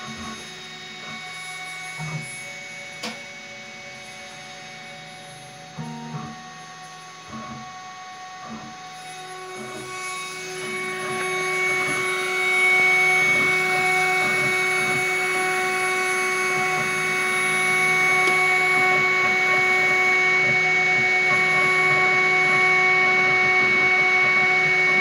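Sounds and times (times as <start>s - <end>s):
high-speed spindle whining: 0.0s - 25.0s.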